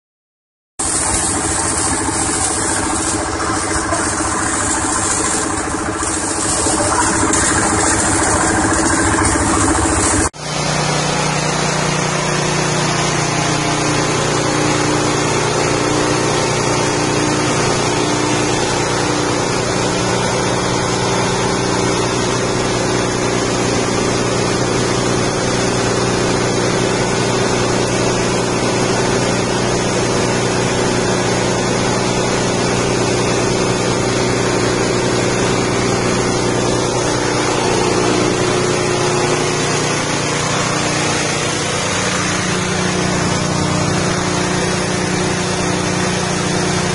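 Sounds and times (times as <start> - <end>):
grinding mill engine running: 0.8 - 46.9.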